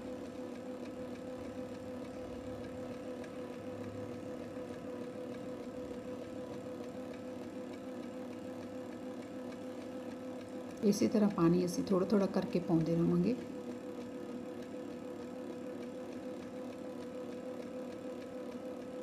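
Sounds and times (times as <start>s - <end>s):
kneading machine motor humming: 0.0s - 19.0s.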